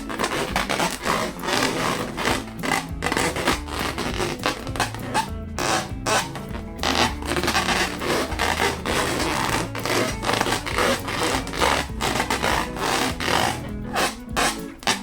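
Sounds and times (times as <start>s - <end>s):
background music with bass notes: 0.0s - 15.0s
scratchy rubbing noise: 0.0s - 15.0s.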